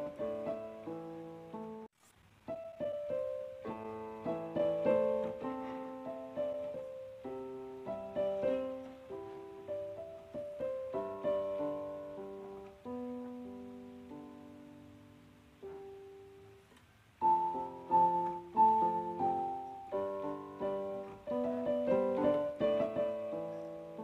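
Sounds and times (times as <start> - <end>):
gentle solo piano piece: 0.0 - 24.0.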